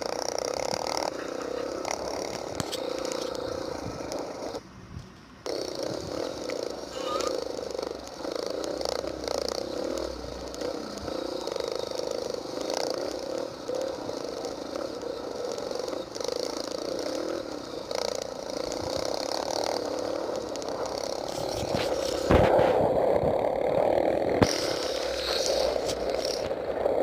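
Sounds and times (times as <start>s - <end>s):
motocross bike engines revving: 0.0s - 4.6s, 5.4s - 27.0s.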